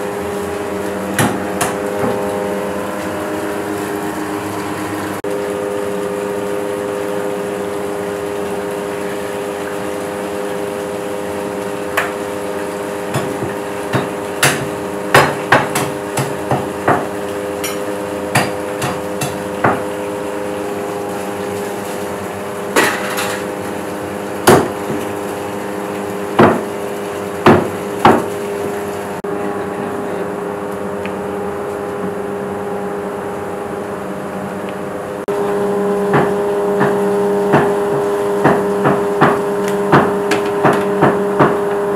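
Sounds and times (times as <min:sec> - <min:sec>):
steady mechanical hum: 0:00.0 - 0:41.9.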